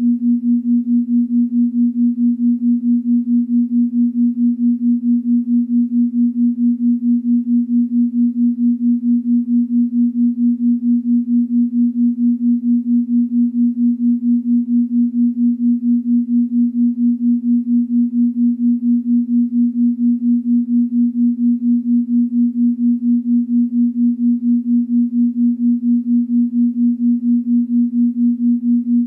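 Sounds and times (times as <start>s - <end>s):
low pulsing electronic tone: 0.0s - 29.0s.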